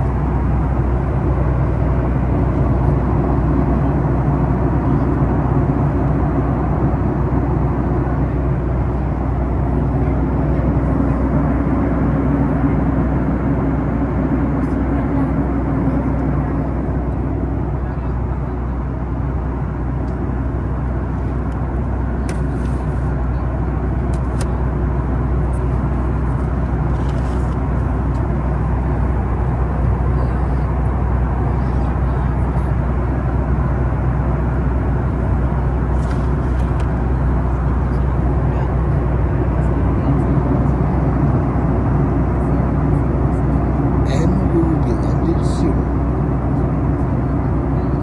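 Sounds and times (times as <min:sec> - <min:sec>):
airliner engine drone: 0:00.0 - 0:48.0.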